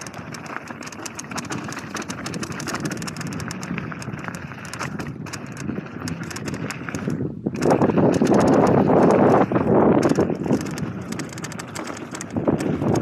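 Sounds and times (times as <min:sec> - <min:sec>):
bike clicks and rattles: 0:00.0 - 0:13.0
bike tyres on dirt and gravel: 0:00.0 - 0:13.0.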